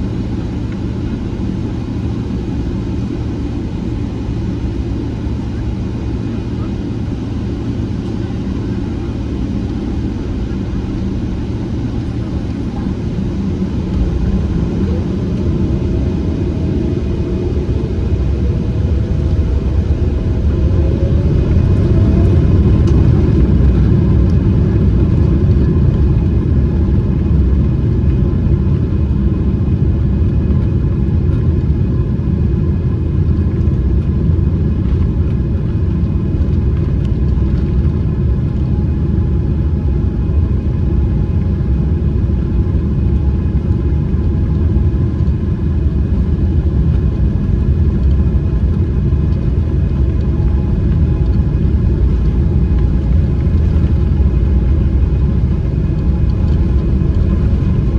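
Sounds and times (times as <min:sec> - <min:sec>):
jet engine cabin rumble: 0:00.0 - 0:57.9.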